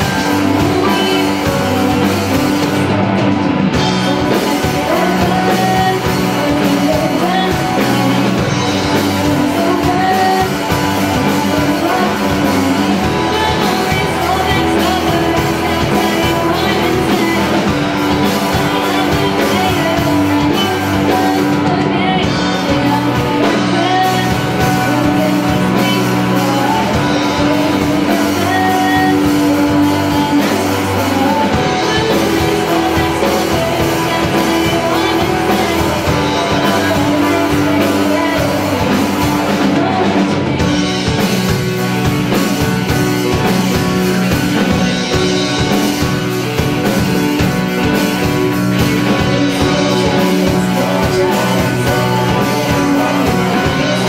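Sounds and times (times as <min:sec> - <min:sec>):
drum kit: 0:00.0 - 0:54.0
electric guitars: 0:00.0 - 0:54.0
girl singing lead: 0:00.0 - 0:54.0.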